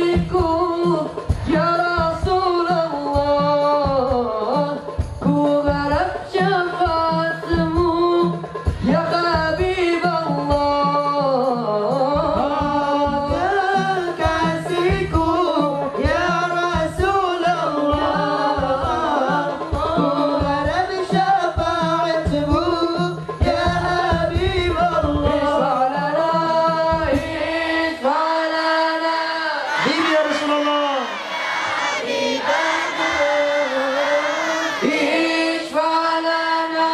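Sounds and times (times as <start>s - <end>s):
men singing through a pa: 0.0s - 36.9s
steady drum accompaniment: 0.0s - 36.9s.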